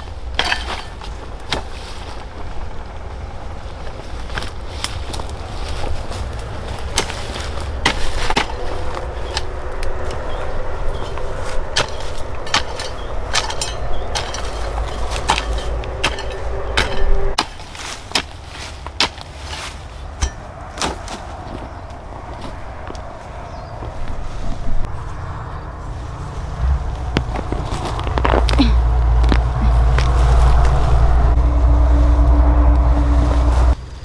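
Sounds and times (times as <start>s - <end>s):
low motor hum: 0.0s - 17.4s, 21.6s - 34.0s.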